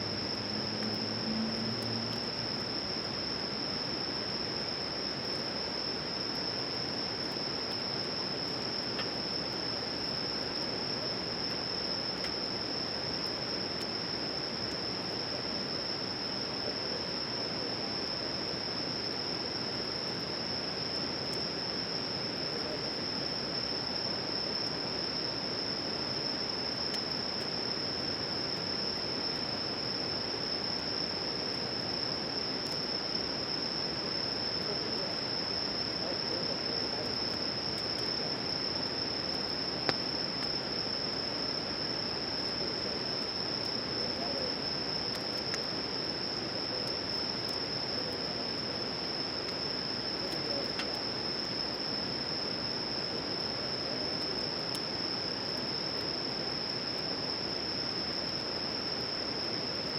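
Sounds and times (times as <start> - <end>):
background hiss: 0.0 - 59.9
insects trilling: 0.0 - 59.9.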